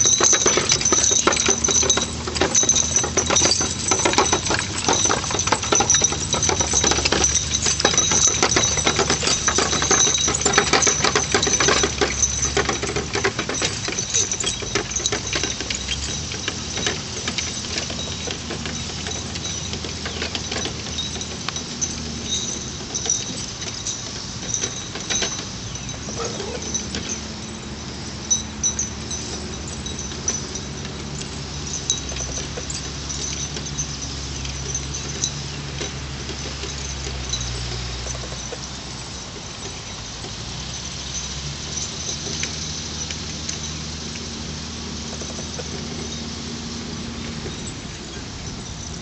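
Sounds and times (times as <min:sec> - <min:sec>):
harness chains clinking: 0:00.0 - 0:49.0
wagon rattling and clattering: 0:00.0 - 0:49.0.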